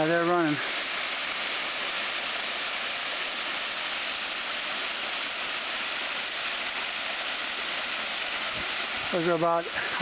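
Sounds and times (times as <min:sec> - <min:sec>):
waterfall pouring and splashing: 0:00.0 - 0:10.0.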